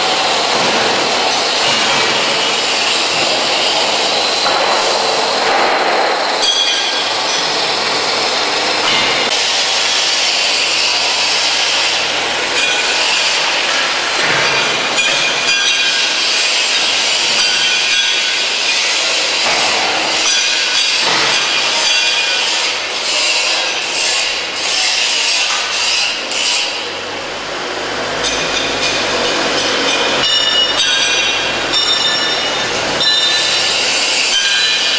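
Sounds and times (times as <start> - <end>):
angle grinder cutting steel: 0.0 - 26.9, 28.0 - 34.9.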